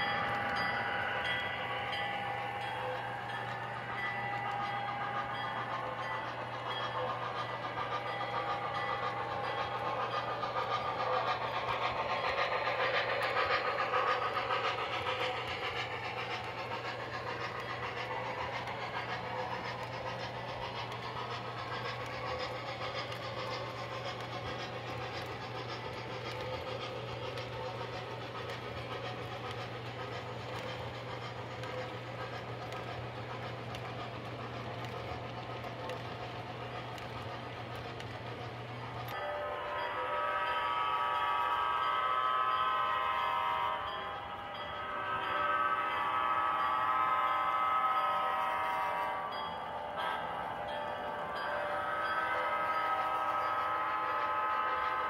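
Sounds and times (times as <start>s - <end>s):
model train wheels clattering: 0.0s - 55.0s.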